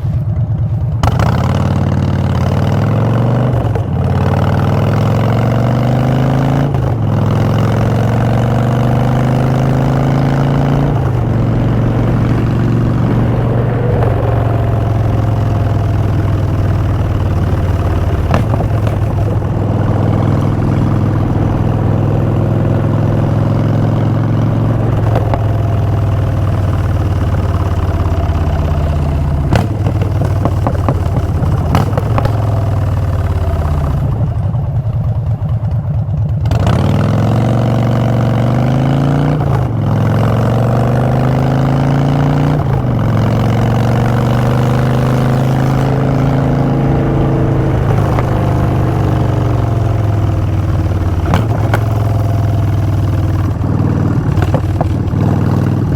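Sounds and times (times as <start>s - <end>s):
motorcycle engine riding: 0.0s - 55.9s.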